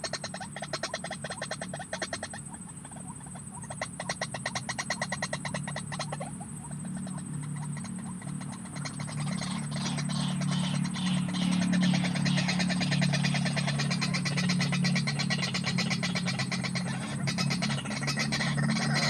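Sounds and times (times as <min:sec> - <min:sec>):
steady low hum: 0:00.0 - 0:19.0
waterhen croaking calls: 0:00.0 - 0:19.0.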